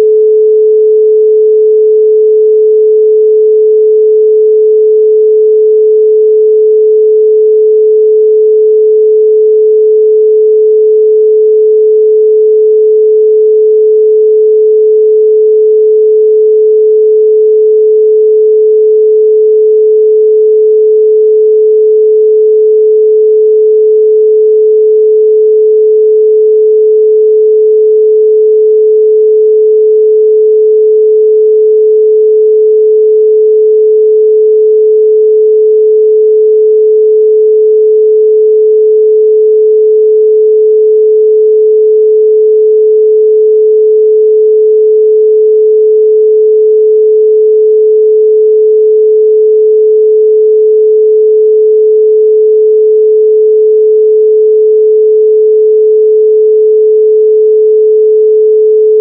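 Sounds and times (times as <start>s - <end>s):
pure sine tone: 0.0s - 59.0s.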